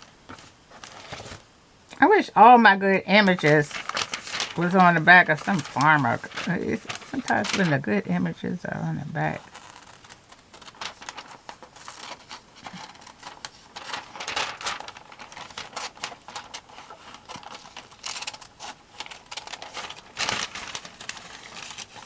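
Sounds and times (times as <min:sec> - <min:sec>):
paper rustling: 0:00.0 - 0:01.5, 0:02.9 - 0:08.4, 0:09.3 - 0:22.0.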